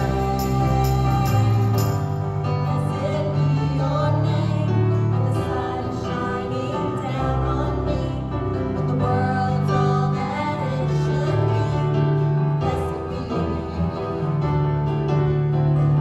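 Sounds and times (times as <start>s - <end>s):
women singing: 0.0s - 15.0s
acoustic guitar: 0.0s - 16.0s
keyboard: 0.0s - 16.0s.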